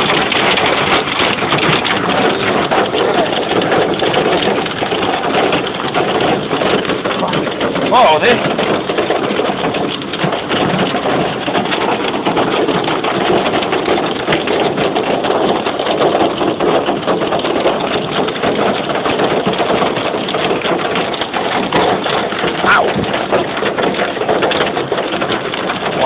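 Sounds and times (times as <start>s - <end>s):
hailstones clattering: 0.0s - 26.0s.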